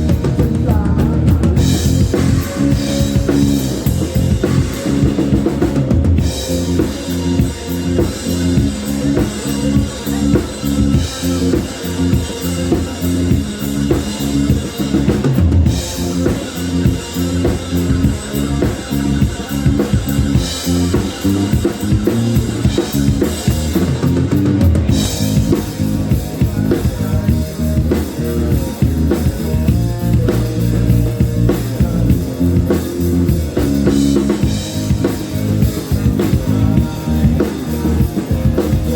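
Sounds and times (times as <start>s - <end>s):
bass line: 0.0s - 38.9s
rock drum kit: 0.0s - 38.9s.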